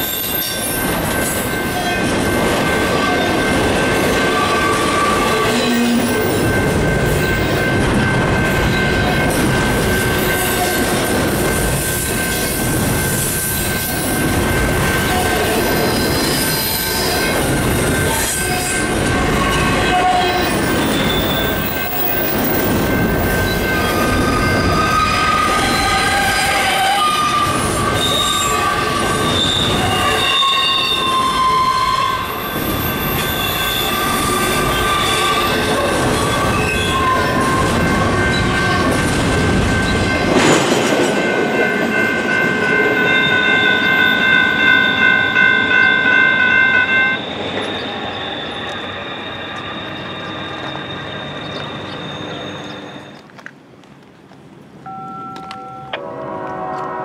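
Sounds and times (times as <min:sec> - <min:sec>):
train wheels squealing: 0:00.0 - 0:11.0, 0:11.7 - 0:40.8, 0:43.0 - 0:53.3
train rumble and clatter: 0:00.0 - 0:57.0.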